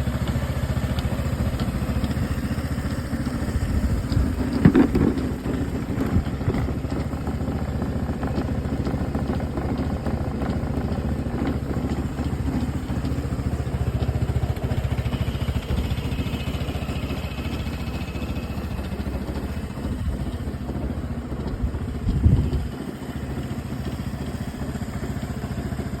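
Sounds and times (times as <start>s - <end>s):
scooter engine idling: 0.0s - 26.0s.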